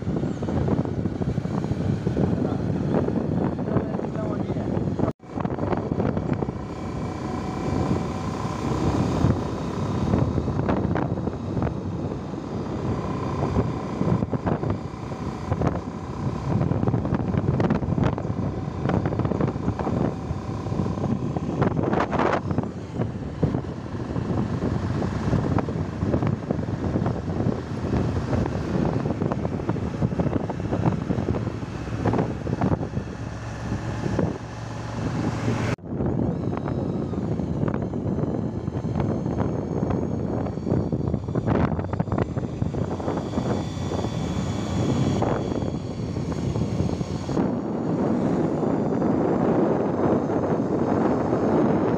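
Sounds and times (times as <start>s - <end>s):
motorcycle engine: 0.0s - 51.9s
road noise: 0.0s - 51.9s
wind buffeting microphone: 0.0s - 51.9s.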